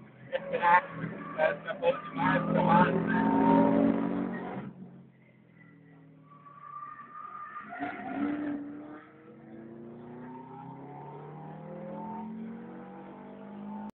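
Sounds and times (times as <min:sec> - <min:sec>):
car engine accelerating: 0:00.0 - 0:13.9.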